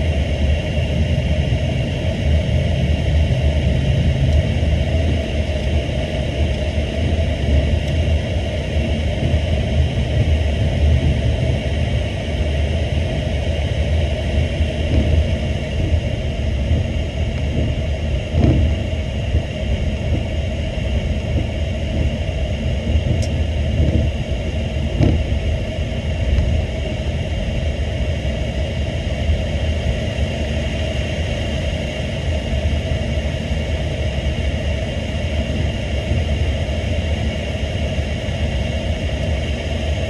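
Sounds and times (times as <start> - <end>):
idling jet engines rumble: 0.0 - 40.0.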